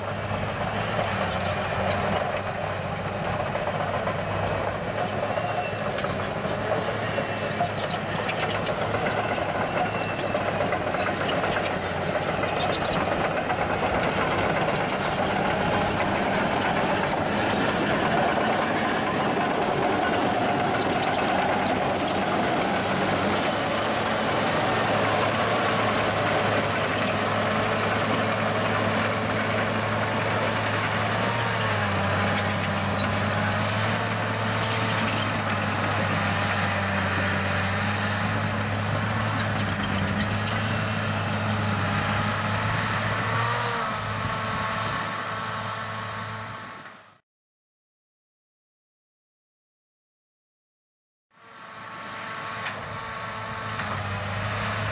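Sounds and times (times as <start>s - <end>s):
diesel engine under load: 0.0s - 47.2s, 51.4s - 54.9s.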